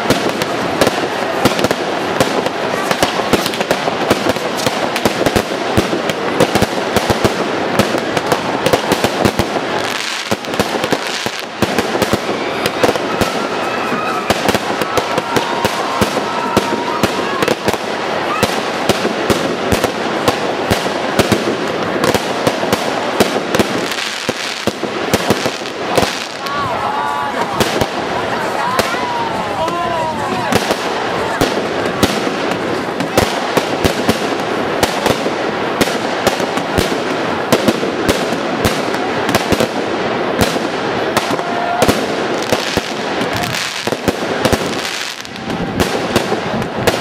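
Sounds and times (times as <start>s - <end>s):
fireworks crackling and banging: 0.0s - 47.0s.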